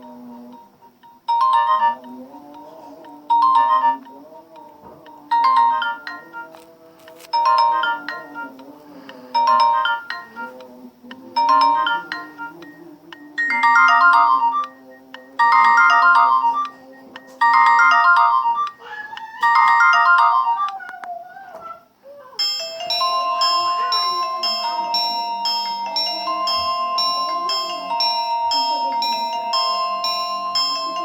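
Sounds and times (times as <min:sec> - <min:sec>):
bell-like ringtone: 0:00.0 - 0:06.6, 0:07.2 - 0:10.6, 0:11.3 - 0:20.9, 0:22.4 - 0:31.0
polyphonic ringtone melody: 0:00.0 - 0:21.1, 0:22.4 - 0:31.0.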